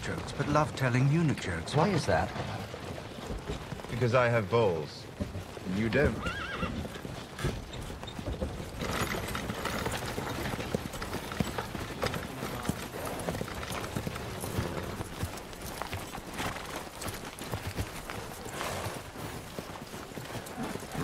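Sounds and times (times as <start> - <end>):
horse hooves clip-clopping: 0.0 - 21.0.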